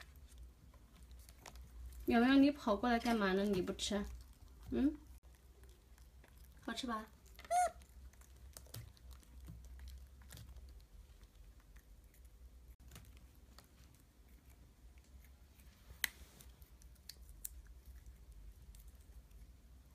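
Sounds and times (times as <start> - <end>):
monkey cracking and chewing seeds: 0.0 - 2.1, 3.0 - 19.9.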